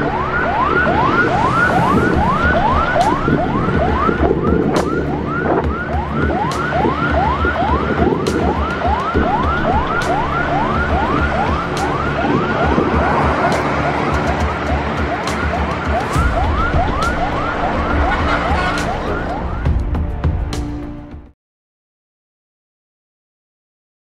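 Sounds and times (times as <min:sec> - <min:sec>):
police siren yelping: 0:00.0 - 0:19.8
heavy highway traffic rumble: 0:00.0 - 0:21.2.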